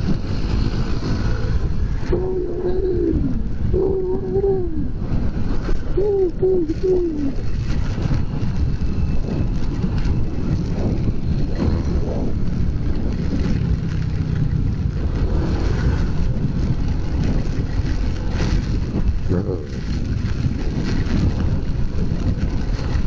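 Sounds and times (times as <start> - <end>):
motorcycle wind and road noise: 0.0 - 23.0.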